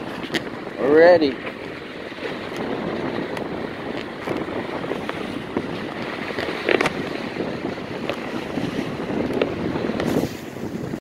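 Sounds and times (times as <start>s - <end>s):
surf breaking against rocks: 0.0s - 11.0s
wind buffeting microphone: 0.0s - 11.0s.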